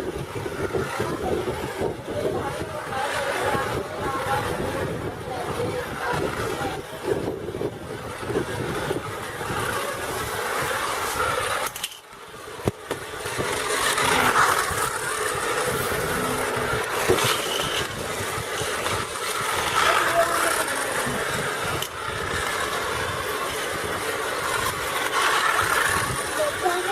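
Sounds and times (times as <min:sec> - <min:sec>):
toy trains running on track: 0:00.0 - 0:26.9.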